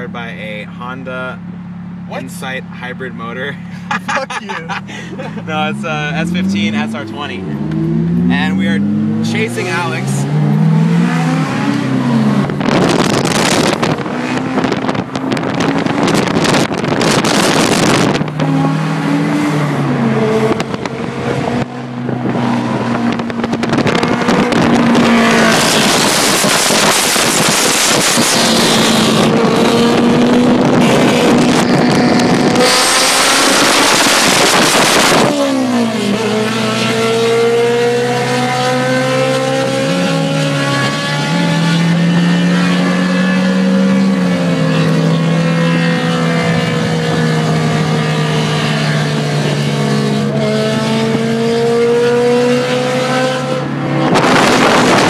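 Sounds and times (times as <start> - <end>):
car engines accelerating: 0.0 - 55.0
wind and road rush: 0.0 - 55.0.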